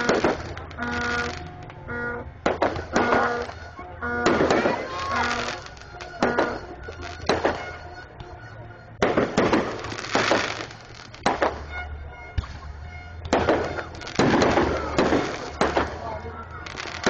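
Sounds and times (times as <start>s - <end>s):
fireworks banging and crackling: 0.0s - 17.0s.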